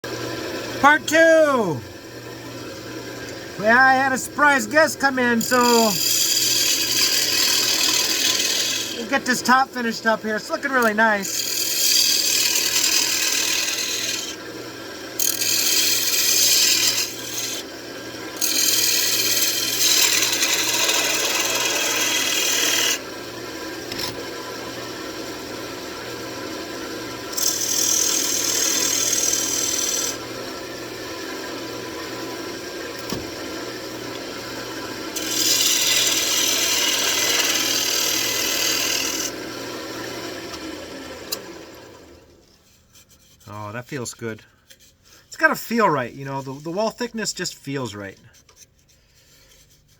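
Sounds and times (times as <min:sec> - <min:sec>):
turning tool cutting wood hissing: 0:00.1 - 0:23.9, 0:25.2 - 0:42.2
wood lathe humming: 0:00.1 - 0:42.4.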